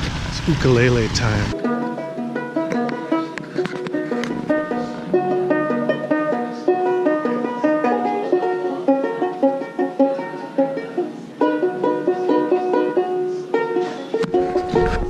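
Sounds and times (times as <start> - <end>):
ukulele notes and chords: 0.8 - 15.0.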